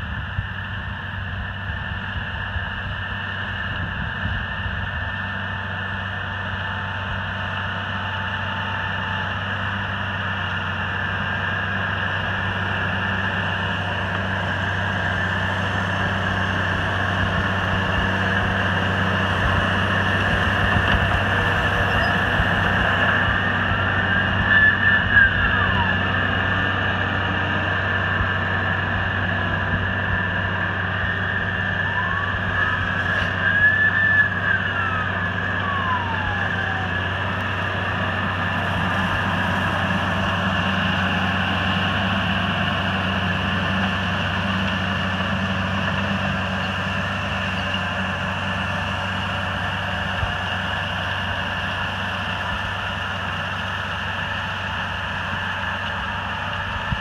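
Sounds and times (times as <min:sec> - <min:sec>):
high whine: 0:00.0 - 0:57.0
tractor engine under load: 0:00.0 - 0:57.0.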